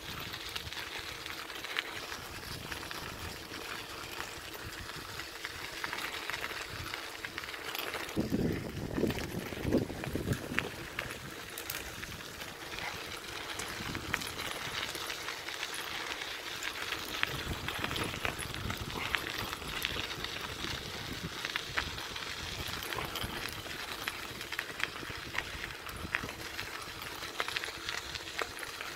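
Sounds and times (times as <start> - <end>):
gravel crunching: 0.0 - 28.9.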